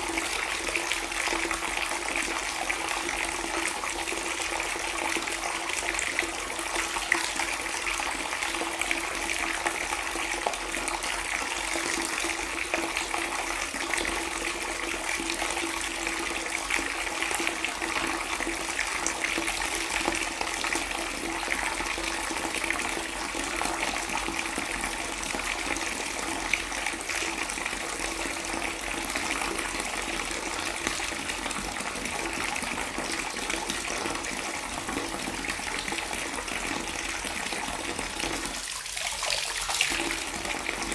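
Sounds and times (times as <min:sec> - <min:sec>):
water pouring: 0:00.0 - 0:40.9.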